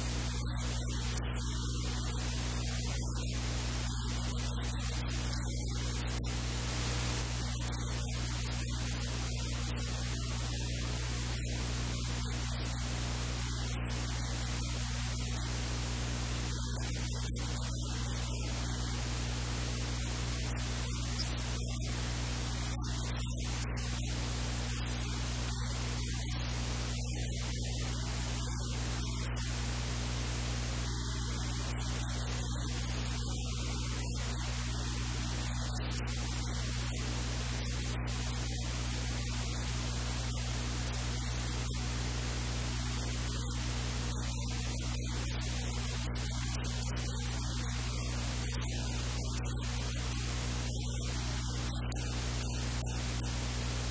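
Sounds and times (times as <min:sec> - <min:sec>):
electrical hiss: 0:00.0 - 0:53.9
low mains hum: 0:00.0 - 0:53.9.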